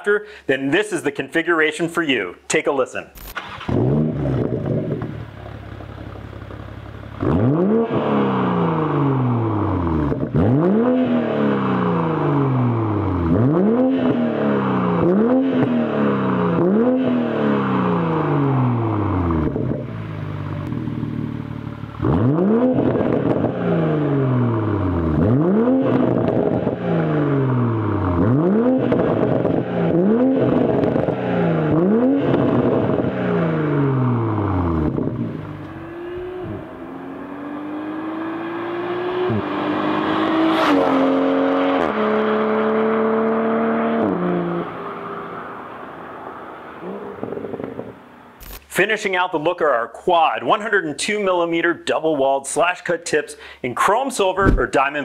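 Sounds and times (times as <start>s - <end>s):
car engine revving: 3.2s - 48.6s
car accelerating hard: 3.3s - 48.1s.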